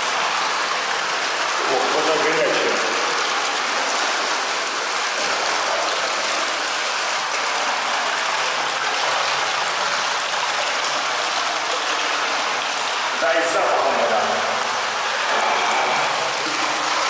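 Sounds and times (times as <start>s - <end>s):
water pouring into a bath: 0.0s - 17.0s.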